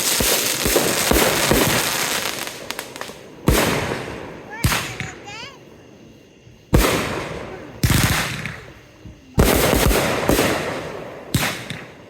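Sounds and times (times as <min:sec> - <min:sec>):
fireworks bangs with echoing rumble: 0:00.0 - 0:05.8, 0:06.7 - 0:12.0.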